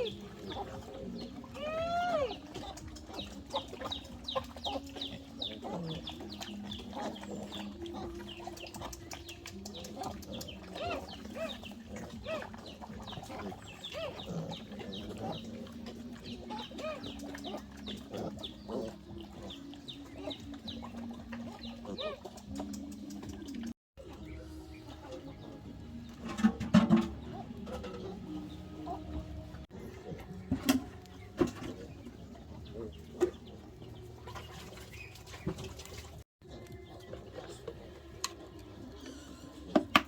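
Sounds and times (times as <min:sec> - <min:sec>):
chickens peeping and clucking: 0:00.0 - 0:40.0.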